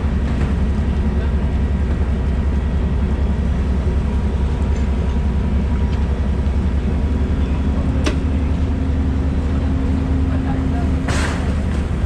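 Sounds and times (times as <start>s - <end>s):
engine idling rumble: 0.0s - 12.0s.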